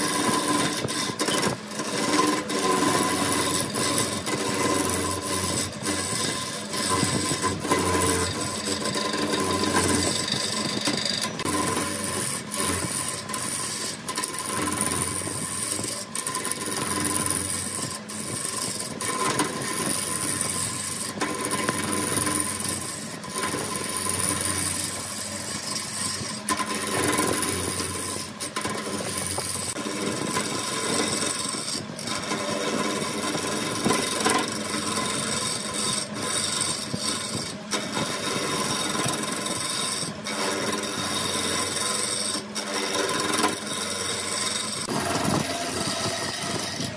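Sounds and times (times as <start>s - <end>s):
faint machine hum: 0.0s - 46.9s
tool scraping wood: 0.0s - 46.9s.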